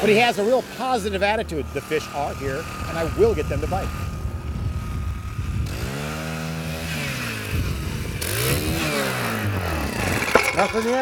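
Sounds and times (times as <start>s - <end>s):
ice auger engine revving: 0.0s - 11.0s.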